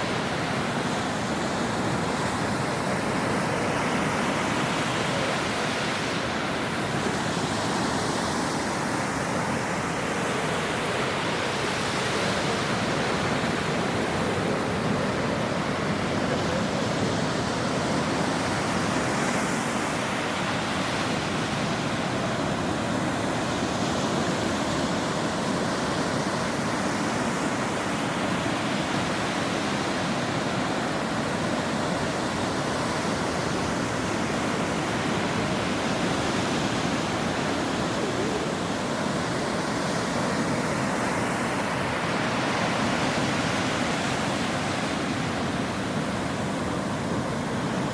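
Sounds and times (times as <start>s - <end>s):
ocean surf on shore: 0.0s - 47.9s.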